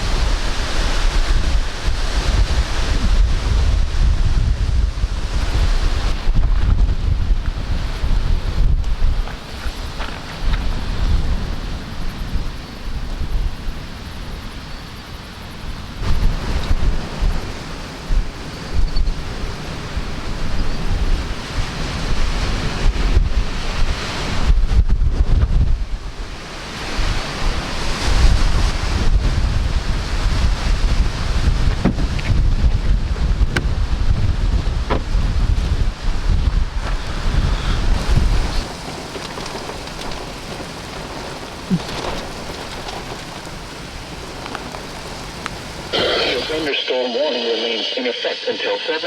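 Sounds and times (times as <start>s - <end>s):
heavy rain: 0.0s - 49.0s
strong gusting wind: 0.0s - 49.0s.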